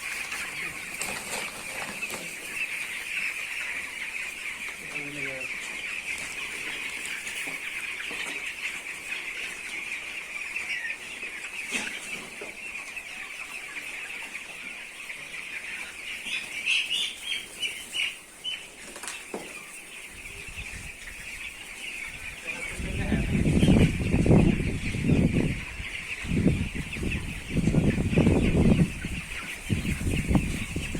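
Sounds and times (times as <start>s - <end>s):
chickens clucking and peeping: 0.0s - 30.9s
loud high chicken calls: 0.0s - 30.9s.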